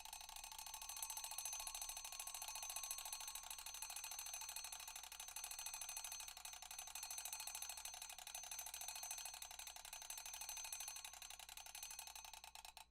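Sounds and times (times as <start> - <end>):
mechanical alarm clock ringing: 0.0 - 12.2.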